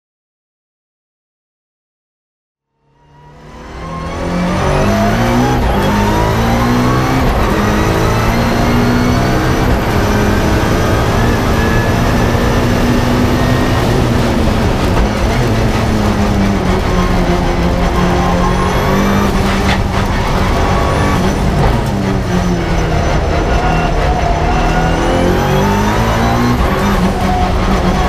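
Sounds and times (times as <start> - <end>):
race car engine at full throttle: 2.8 - 28.0
gear upshifts: 3.9 - 28.0.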